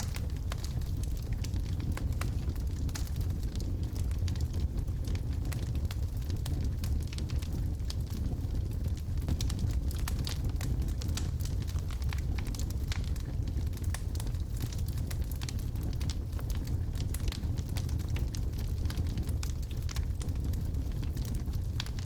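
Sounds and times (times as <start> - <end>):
logs crackling and popping: 0.0 - 22.0
low rumble of flame: 0.0 - 22.0.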